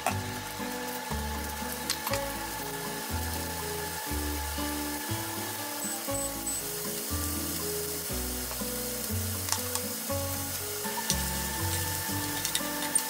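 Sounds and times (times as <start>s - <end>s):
background music with bass line: 0.0s - 13.0s
mushrooms sizzling in frying pan: 0.0s - 13.0s.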